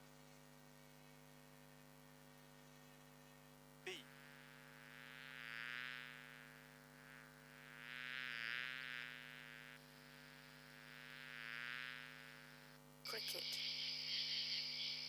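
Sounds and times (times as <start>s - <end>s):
insect buzzing: 0.0s - 15.0s
low electrical hum: 0.0s - 15.0s.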